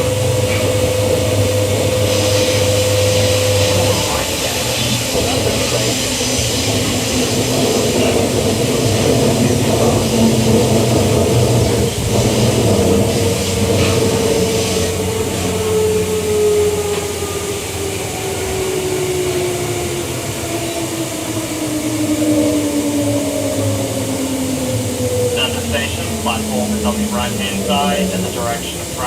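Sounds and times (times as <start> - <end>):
train knocks: 0.0 - 22.0, 22.8 - 29.0
traction motor whine falling: 0.0 - 29.0
train running on rails: 0.0 - 29.0.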